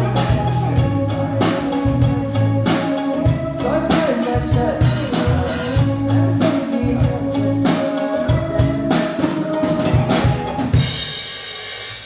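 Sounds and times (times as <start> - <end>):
drum fill bass and snare: 0.0 - 12.0
rock band held note: 0.0 - 12.0.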